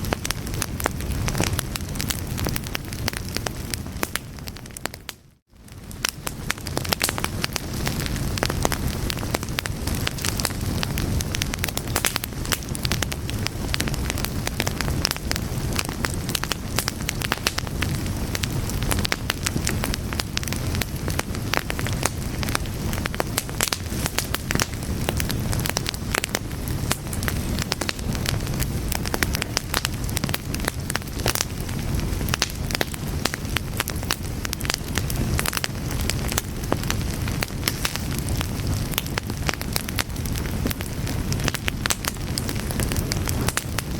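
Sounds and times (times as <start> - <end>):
fire crackling: 0.0 - 43.9
low rumble of flame: 0.0 - 43.9.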